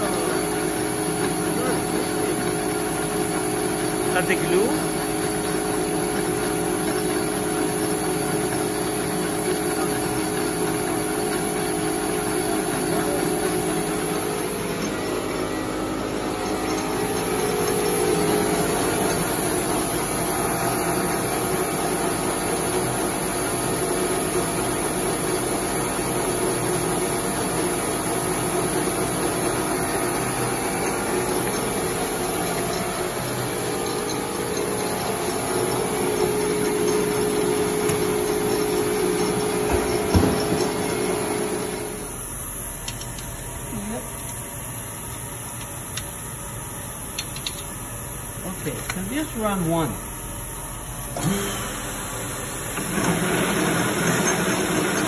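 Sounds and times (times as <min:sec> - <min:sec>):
paper-folding machine hum: 0:00.0 - 0:46.6, 0:48.3 - 0:55.0.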